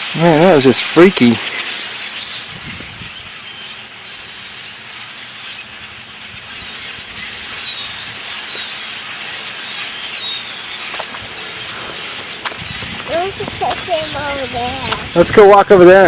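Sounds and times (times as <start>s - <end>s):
hissing noise: 0.0s - 4.9s, 5.7s - 15.3s
flock of birds chirping: 0.0s - 16.0s.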